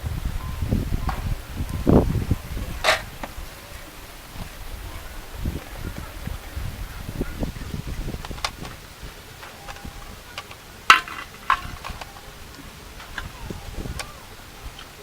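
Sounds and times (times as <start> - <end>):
utensils and dishes clinking: 0.4 - 15.0.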